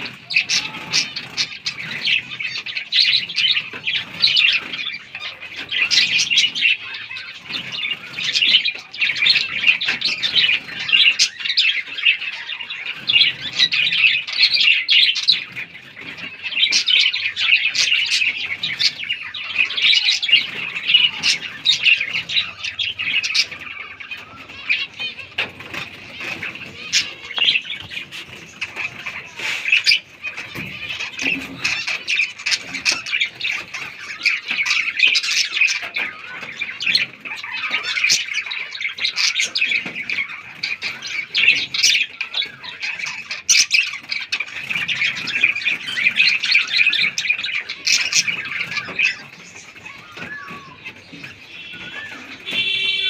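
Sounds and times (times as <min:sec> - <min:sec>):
finches chirping: 0:00.0 - 0:53.0.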